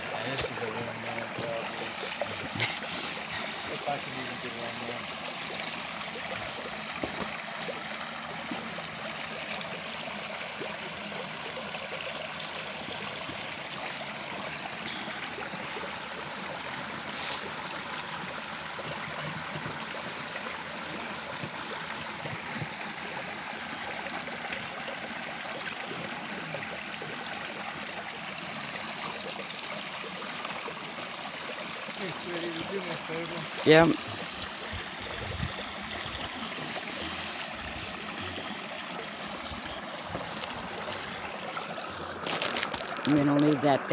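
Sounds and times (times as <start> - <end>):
creek running over riffle: 0.0 - 43.9.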